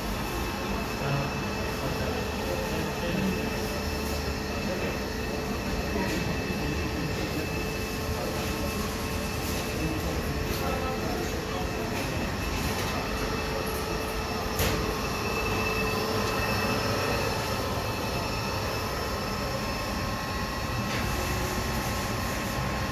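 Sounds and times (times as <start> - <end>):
grinding machine humming: 0.0 - 22.9.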